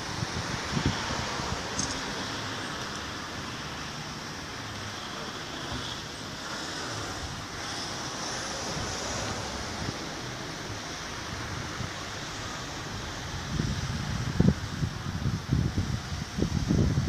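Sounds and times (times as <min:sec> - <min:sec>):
wind on microphone: 0:00.0 - 0:03.3, 0:05.7 - 0:17.0
traffic hiss: 0:00.0 - 0:17.0.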